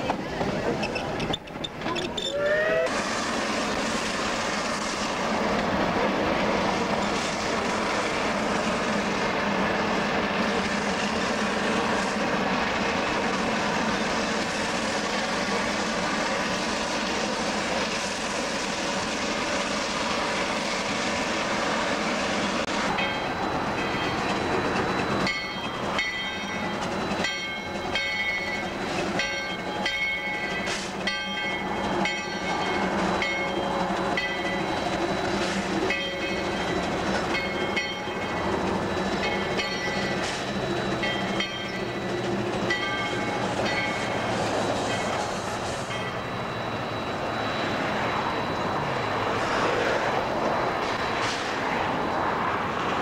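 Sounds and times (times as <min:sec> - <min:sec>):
steam train running noise: 0:00.0 - 0:53.0.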